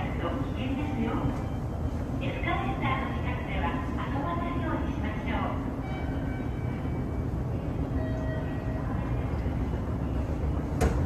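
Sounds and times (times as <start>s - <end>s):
escalator rumble and hum: 0.0s - 11.0s.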